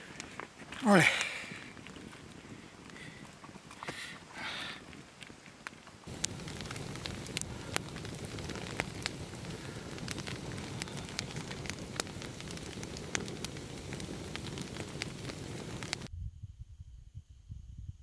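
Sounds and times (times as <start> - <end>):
campfire crackling and popping: 0.0 - 16.1
fire hissing: 0.0 - 16.1.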